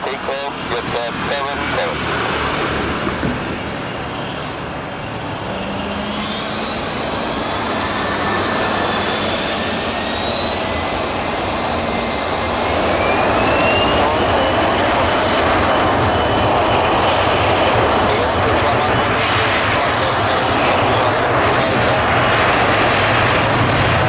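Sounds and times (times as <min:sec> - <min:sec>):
jet engines roaring on takeoff: 0:00.0 - 0:24.0.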